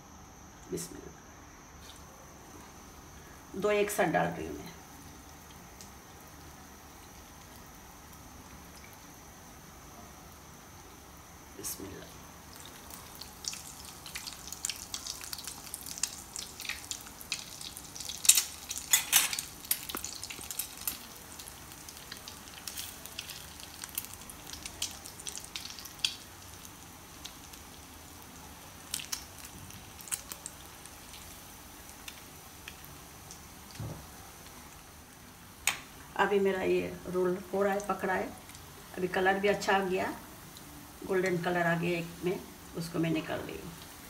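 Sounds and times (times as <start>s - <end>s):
food deep frying in oil: 1.7s - 44.0s.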